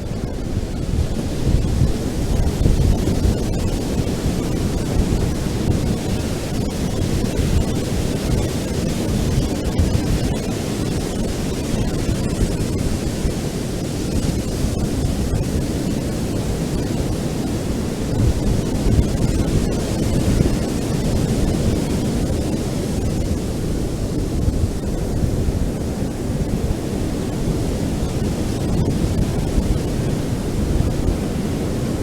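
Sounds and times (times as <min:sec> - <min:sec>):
waves washing on beach: 0:00.0 - 0:32.0
wind on microphone: 0:00.0 - 0:32.0.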